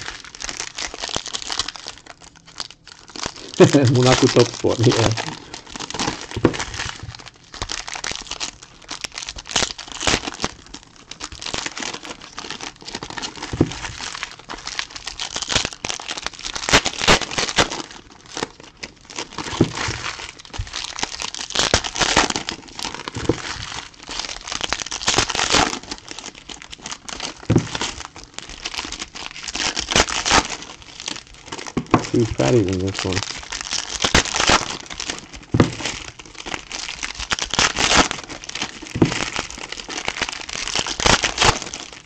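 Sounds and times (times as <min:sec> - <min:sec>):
foil wrappers crinkling and tearing: 0:00.0 - 0:42.0.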